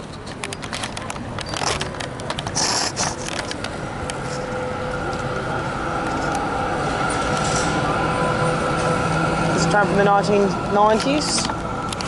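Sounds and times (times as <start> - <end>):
tram whine and rumble: 0.0 - 12.0.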